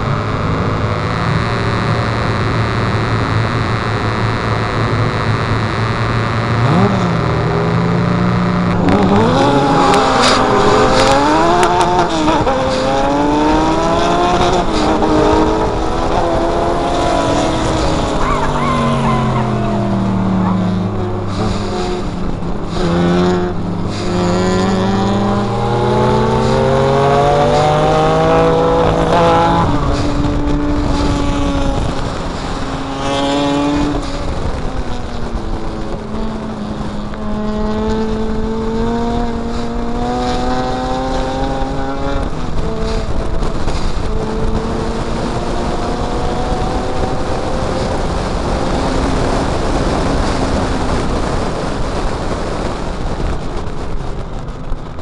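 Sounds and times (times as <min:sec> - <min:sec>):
car engine accelerating hard: 0:00.0 - 0:55.0
wind and road noise: 0:00.0 - 0:55.0.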